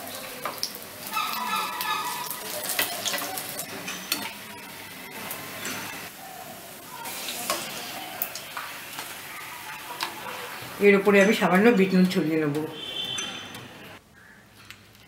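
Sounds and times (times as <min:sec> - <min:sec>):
oil sizzling: 0:00.0 - 0:12.6.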